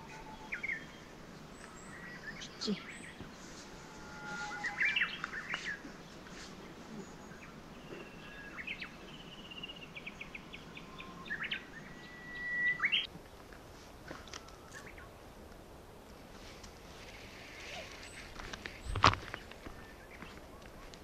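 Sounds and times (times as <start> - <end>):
birds chirping: 0.0 - 13.5, 14.1 - 15.4, 17.0 - 21.0
faint steady hiss: 0.0 - 21.0.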